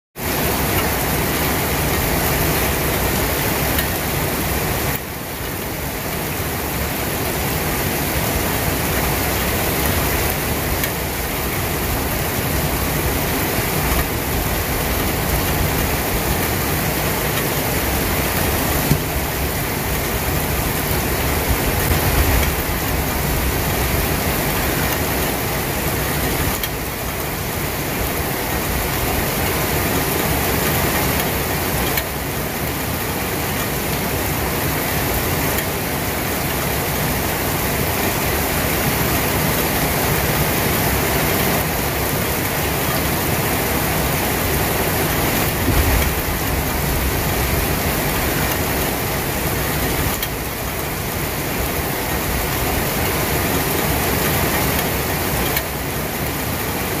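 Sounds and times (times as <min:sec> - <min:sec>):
steady rain falling: 0:00.2 - 0:57.0.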